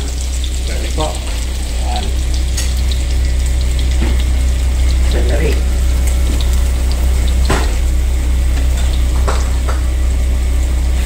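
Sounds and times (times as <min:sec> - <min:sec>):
garlic frying in a pan: 0:00.0 - 0:11.0
loud low hum: 0:00.0 - 0:11.0.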